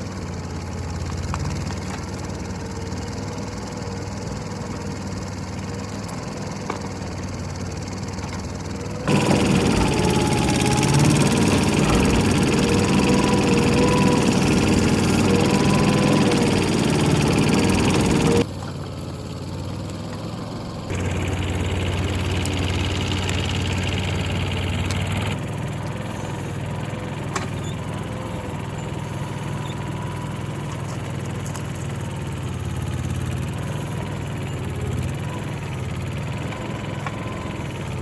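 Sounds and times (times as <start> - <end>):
machinery engines running: 0.0 - 38.0.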